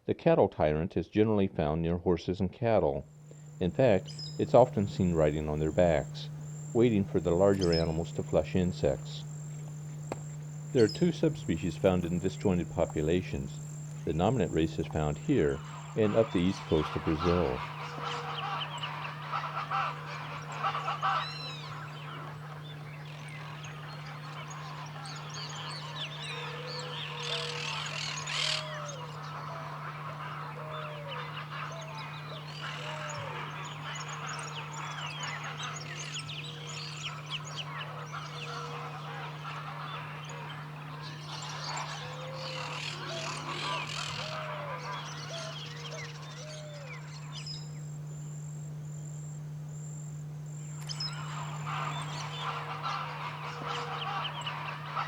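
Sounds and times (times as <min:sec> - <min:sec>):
steady low hum: 0:01.8 - 0:55.0
low curved bird call: 0:03.2 - 0:55.0.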